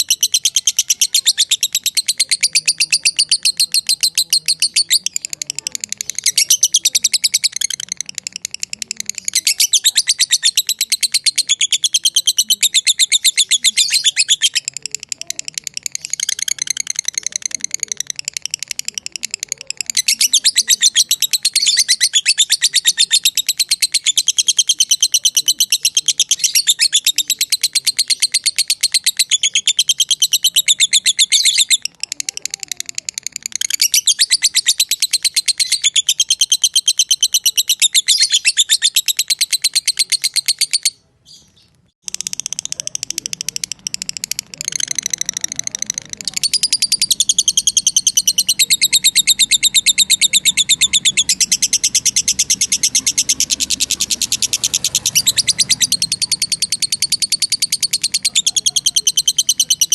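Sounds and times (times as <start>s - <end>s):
lovebird chattering shrill chirps: 0.0s - 59.9s.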